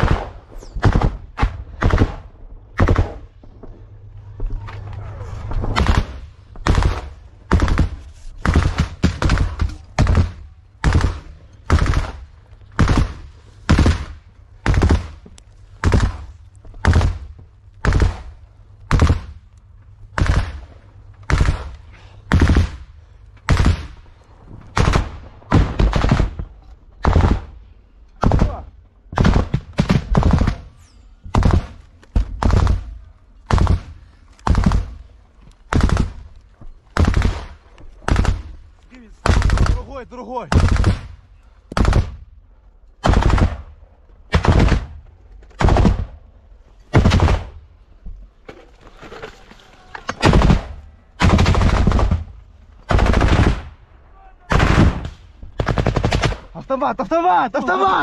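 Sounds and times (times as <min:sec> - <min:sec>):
gunshots: 0:00.0 - 0:19.5, 0:20.1 - 0:42.2, 0:43.0 - 0:46.2, 0:46.9 - 0:47.6, 0:50.0 - 0:56.7.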